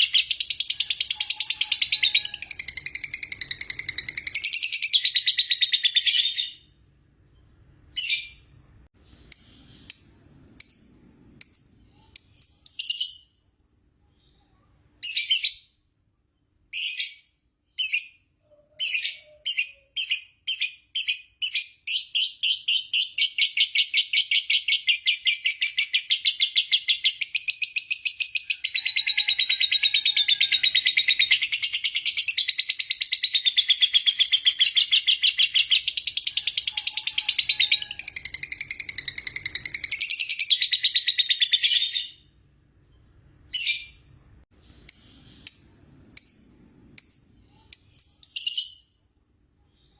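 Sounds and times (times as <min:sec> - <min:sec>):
lovebird chirps and trill: 0:00.0 - 0:13.4, 0:14.3 - 0:15.8, 0:16.7 - 0:49.1.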